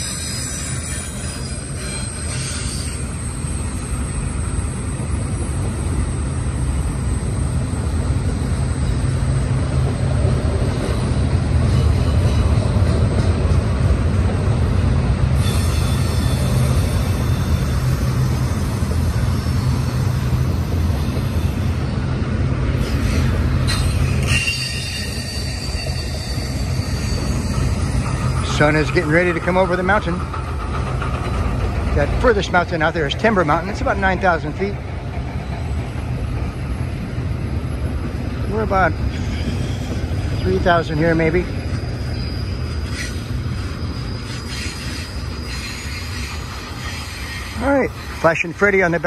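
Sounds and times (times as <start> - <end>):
high wheel squeal: 0.0 - 13.4, 15.4 - 22.0, 22.8 - 34.8, 35.5 - 49.0
train wheels rumbling on rail: 0.0 - 49.0.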